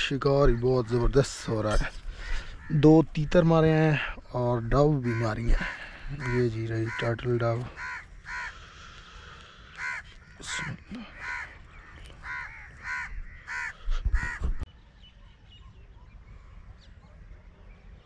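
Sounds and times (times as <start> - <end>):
bird calling: 0.0 - 17.4.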